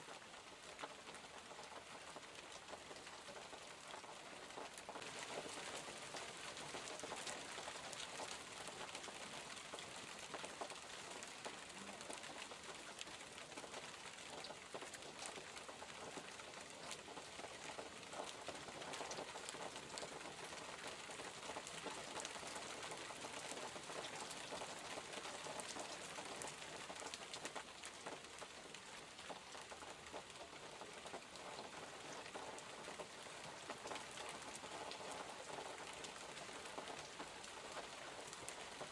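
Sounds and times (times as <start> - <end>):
rain drops pattering: 0.0 - 38.9.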